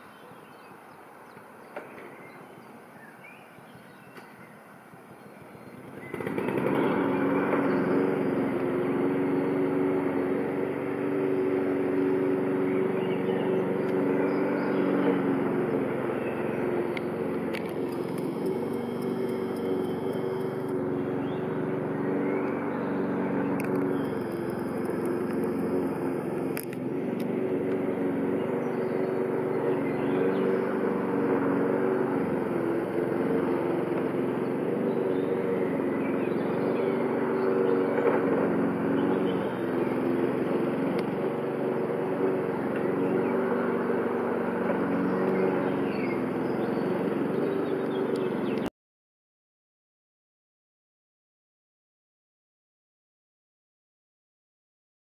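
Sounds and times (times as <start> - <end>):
engine humming steadily: 0.0 - 48.7.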